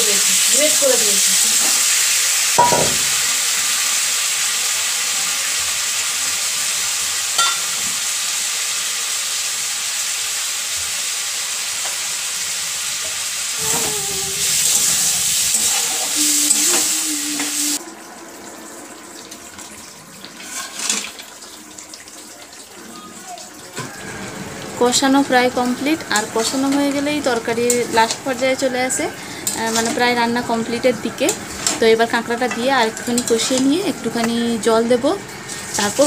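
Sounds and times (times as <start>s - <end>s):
food sizzling in oil: 0.0s - 17.8s, 19.8s - 22.1s, 23.9s - 36.0s.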